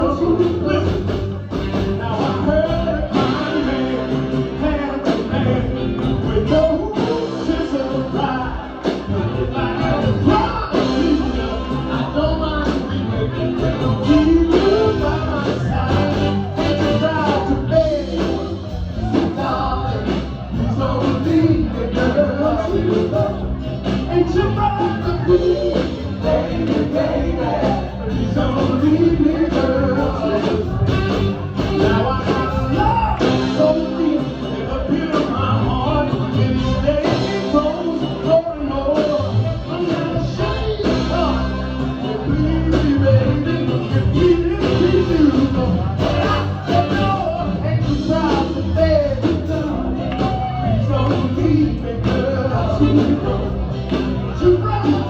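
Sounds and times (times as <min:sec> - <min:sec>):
band with guitar: 0:00.0 - 0:55.0
person singing: 0:00.0 - 0:55.0.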